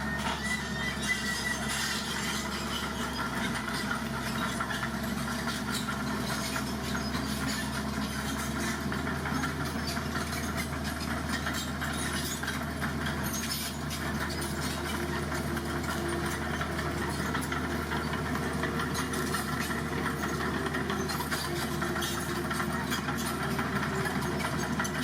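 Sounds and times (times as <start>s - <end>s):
diesel engine running at low revs: 0.0s - 25.0s.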